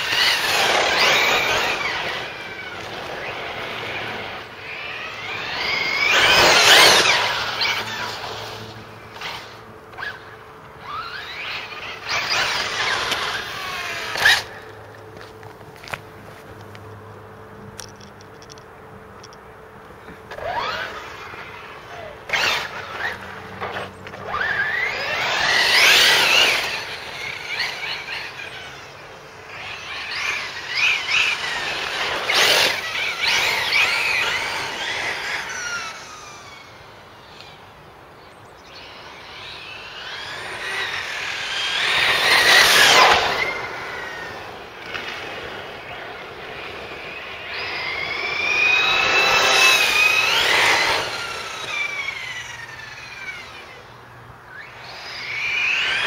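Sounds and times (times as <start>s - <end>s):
rc truck motor whine: 0.0s - 56.0s.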